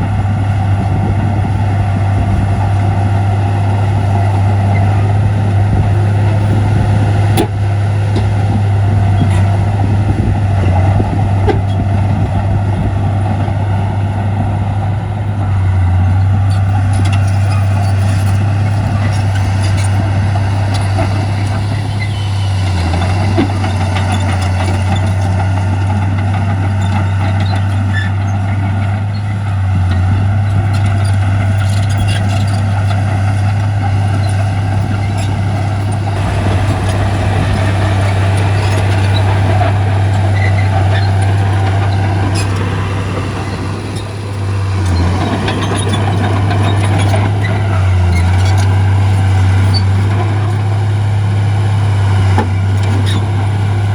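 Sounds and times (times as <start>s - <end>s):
heavy diesel engine humming: 0.0s - 53.9s.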